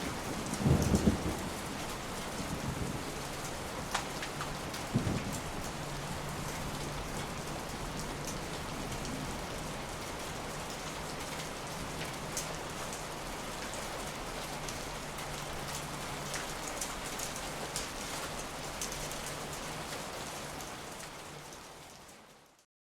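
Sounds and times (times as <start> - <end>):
steady rain falling: 0.0 - 22.6.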